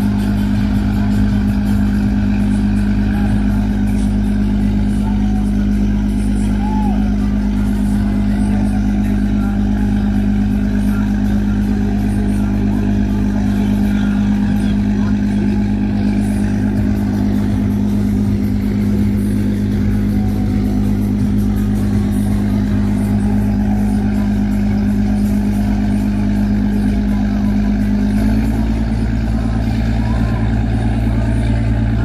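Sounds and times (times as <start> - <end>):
boat diesel engine droning: 0.0 - 32.0
water churning: 0.0 - 32.0.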